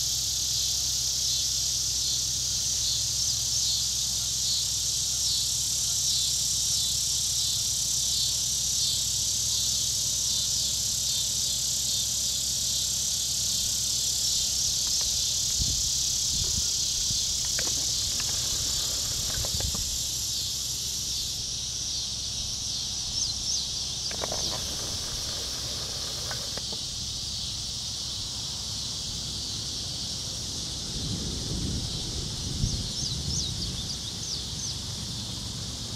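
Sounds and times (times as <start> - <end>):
insects chorus pulsing: 0.0 - 35.9.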